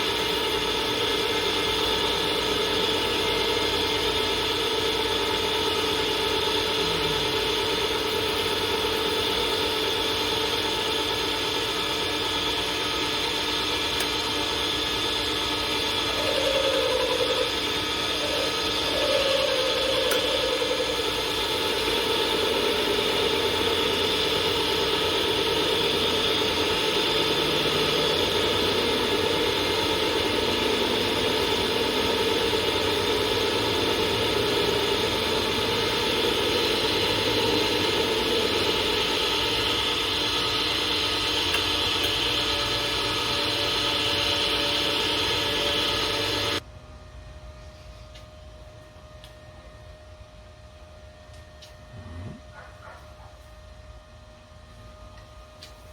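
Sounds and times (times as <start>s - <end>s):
machine humming and whirring: 0.0s - 55.9s.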